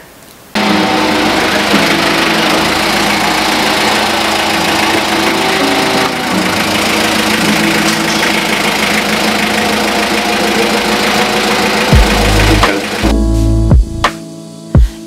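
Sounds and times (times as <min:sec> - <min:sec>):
diesel truck engine clattering: 0:00.6 - 0:13.2.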